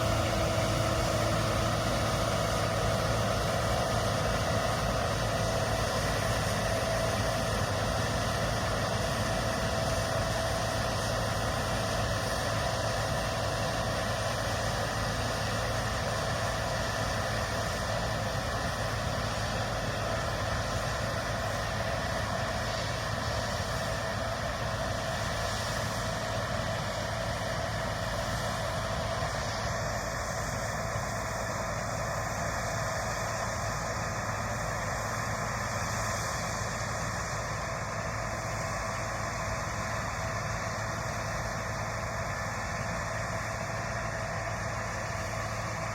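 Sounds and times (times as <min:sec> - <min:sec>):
combine harvester drone: 0:00.0 - 0:45.9
steady whine: 0:00.0 - 0:45.9.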